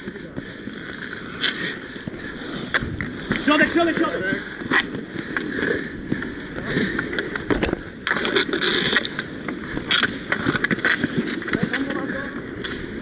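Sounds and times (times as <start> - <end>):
inline skate wheels scraping: 0.0 - 13.0.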